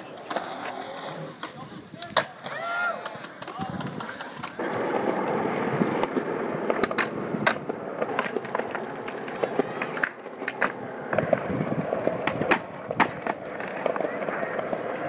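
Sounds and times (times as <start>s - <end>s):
skateboard sharp clacks: 0.0s - 15.0s
skateboard wheels rolling on concrete: 0.0s - 15.0s.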